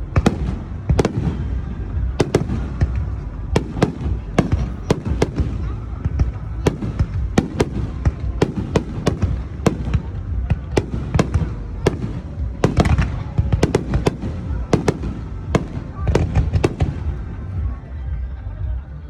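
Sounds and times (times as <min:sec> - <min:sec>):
fireworks cracking: 0:00.0 - 0:17.8
low rumble of fireworks: 0:00.0 - 0:19.0.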